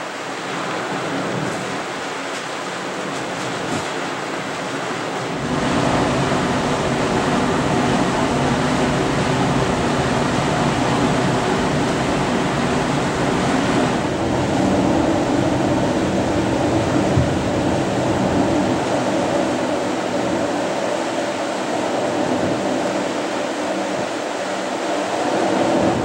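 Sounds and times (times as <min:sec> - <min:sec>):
ship engines low hum: 0:00.0 - 0:26.0
rushing noise: 0:02.9 - 0:26.0.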